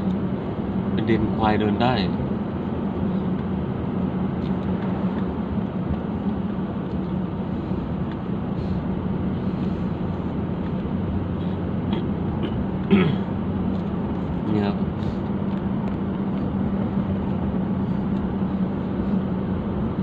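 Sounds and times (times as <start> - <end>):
car driving heard from inside: 0.0 - 20.0.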